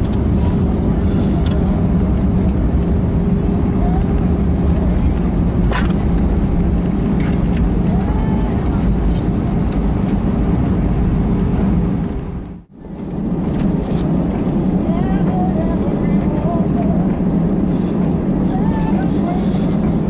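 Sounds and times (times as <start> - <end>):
airplane cabin rumble on landing: 0.0 - 20.0.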